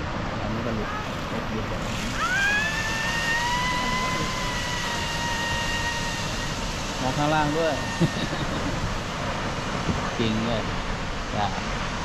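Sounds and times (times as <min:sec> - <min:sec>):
high whine sweeping up: 0:00.0 - 0:11.9
waterfall roaring: 0:00.0 - 0:12.0.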